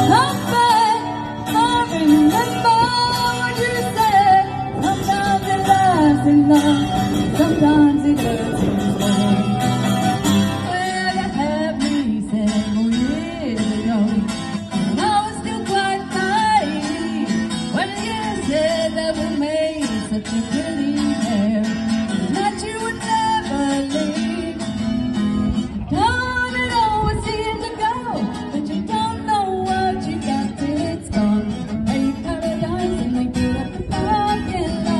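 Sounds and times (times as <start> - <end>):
woman singing: 0.0 - 24.7, 25.9 - 34.9
acoustic guitar: 0.0 - 34.9.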